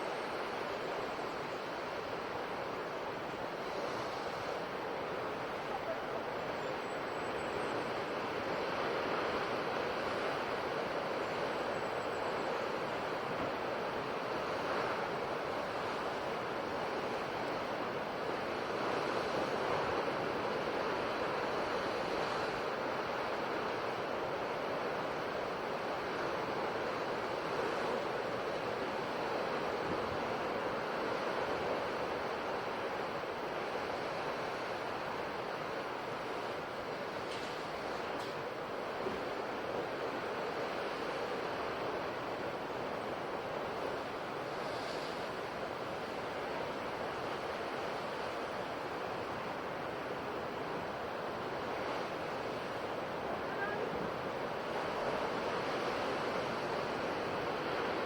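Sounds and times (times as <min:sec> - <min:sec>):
sea waves washing on shore: 0:00.0 - 0:07.1, 0:07.7 - 0:58.0.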